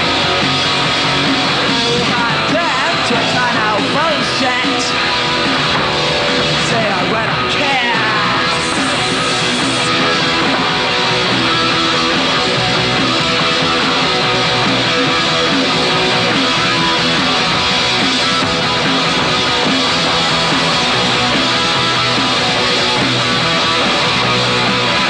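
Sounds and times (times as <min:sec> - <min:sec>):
punk rock band playing: 0:00.0 - 0:25.0.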